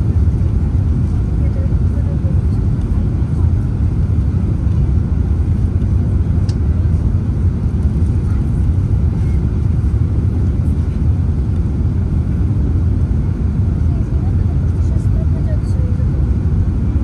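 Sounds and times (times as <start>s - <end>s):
jet engines rumbling: 0.0s - 17.0s
rushing air in aircraft cabin: 0.0s - 17.0s.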